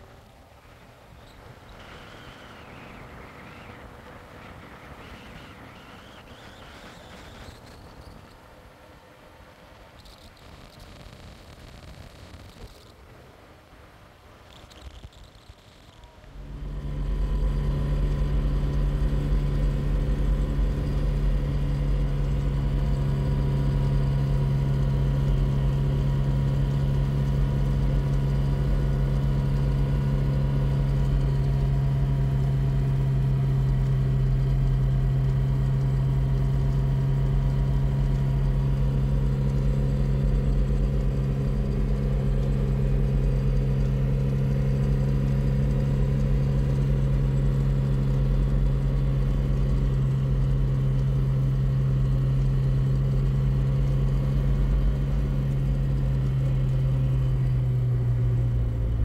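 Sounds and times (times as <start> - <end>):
engine hum: 0.0 - 59.0
road noise: 0.0 - 59.0.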